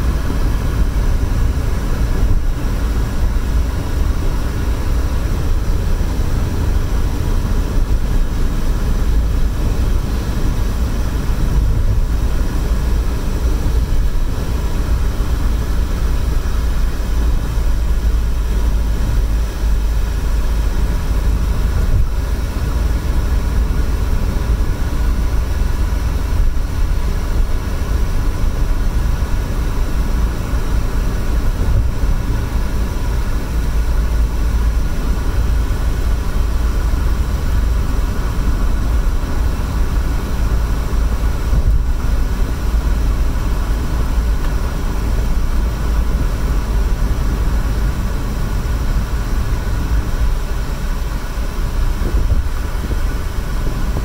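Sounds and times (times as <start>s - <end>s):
car cabin road noise: 0.0s - 54.0s.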